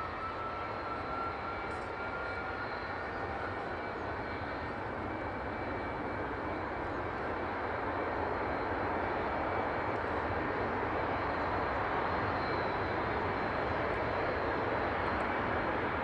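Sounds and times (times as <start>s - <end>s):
jet engine running: 0.0s - 16.0s.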